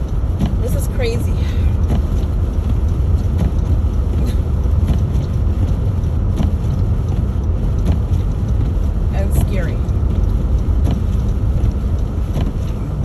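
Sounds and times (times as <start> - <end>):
car engine and road noise: 0.0 - 13.0
faint clicks: 1.6 - 13.0.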